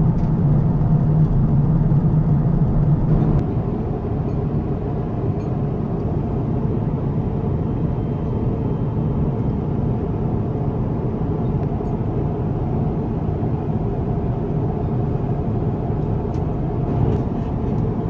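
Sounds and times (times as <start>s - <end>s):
airliner cabin noise: 2.6s - 18.0s.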